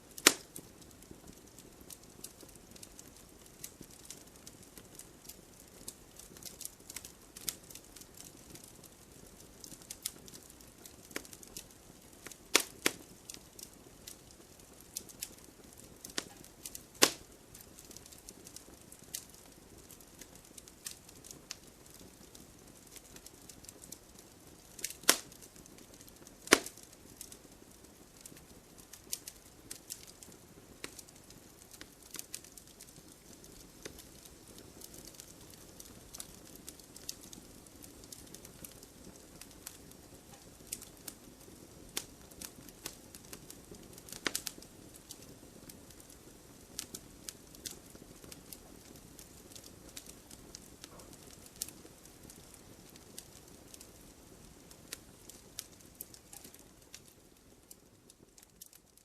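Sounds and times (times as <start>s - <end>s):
burning firewood crackling: 0.0s - 59.0s.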